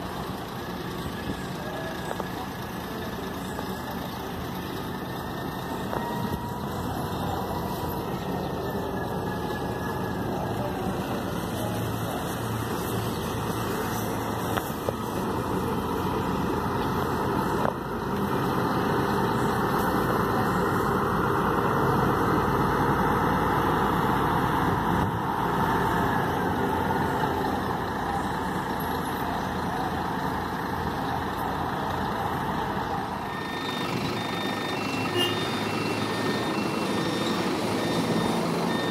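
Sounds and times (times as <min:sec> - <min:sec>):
diesel bus passing: 0:00.0 - 0:38.9.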